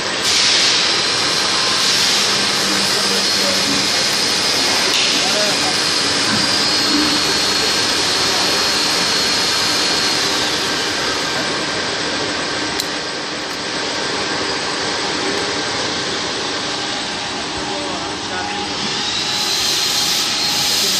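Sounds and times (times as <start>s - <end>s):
high machine whine: 0.0s - 20.9s
machine hiss and hum: 0.0s - 20.9s.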